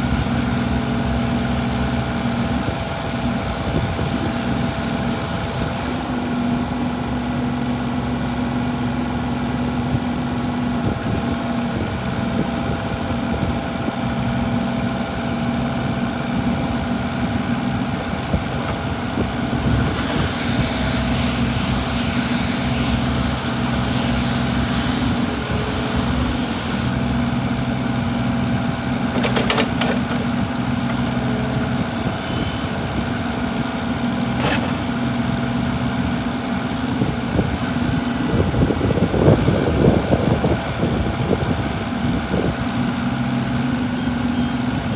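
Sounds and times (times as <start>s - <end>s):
excavator diesel engine idling: 6.0s - 44.9s.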